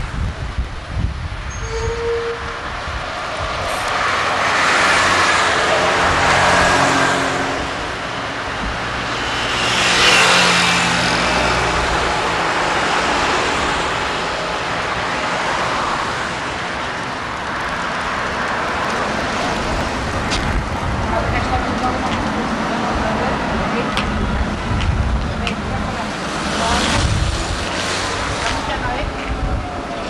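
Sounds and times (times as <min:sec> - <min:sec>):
motor vehicles passing: 0:02.5 - 0:30.0.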